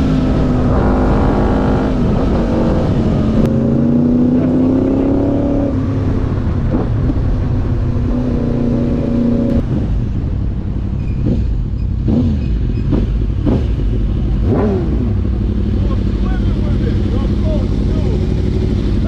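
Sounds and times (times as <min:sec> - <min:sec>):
motorcycle engines rumbling: 0:00.0 - 0:19.0.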